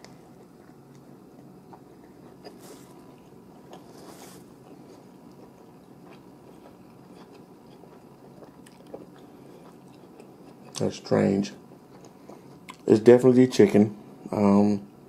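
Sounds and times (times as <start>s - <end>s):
person chewing sandwich: 0.0s - 10.9s, 11.7s - 12.9s.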